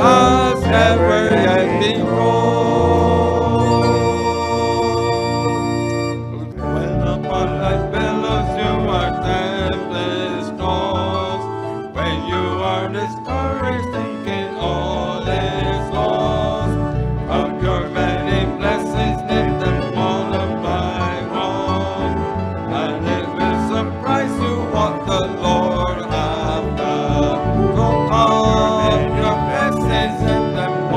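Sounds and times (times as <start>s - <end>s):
instrumental hymn from church band: 0.0s - 30.9s.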